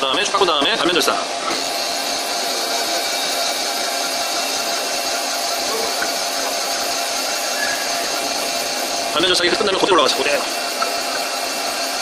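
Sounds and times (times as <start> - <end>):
lathe machining noise: 0.0 - 12.0.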